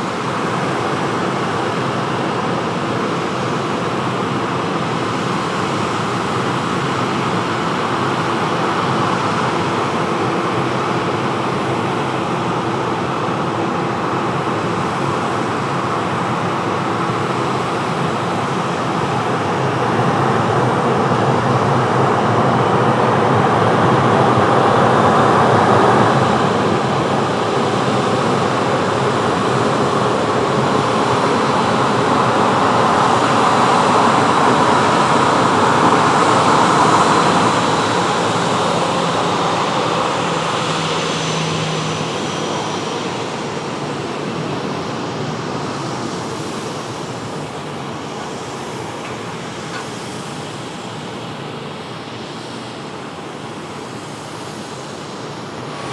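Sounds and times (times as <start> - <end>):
jet engines roaring: 0.0 - 55.9.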